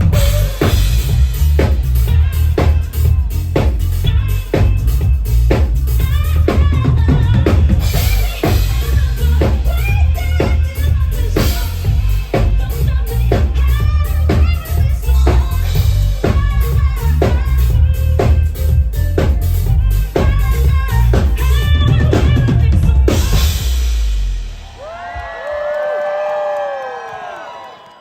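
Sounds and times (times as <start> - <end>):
live band playing amplified music: 0.0 - 25.1
heavy bass: 0.0 - 25.7
drum kit beat: 0.0 - 26.3.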